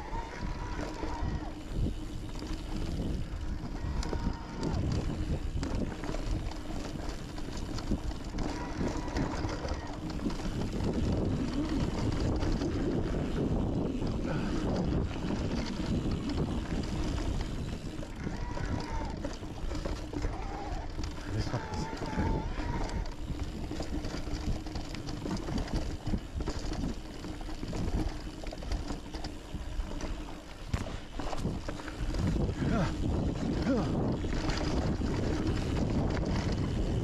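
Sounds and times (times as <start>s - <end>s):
bike rattling: 0.0s - 37.0s
bike tyre noise on rocky trail: 0.0s - 37.0s
wind buffeting microphone: 0.0s - 37.0s.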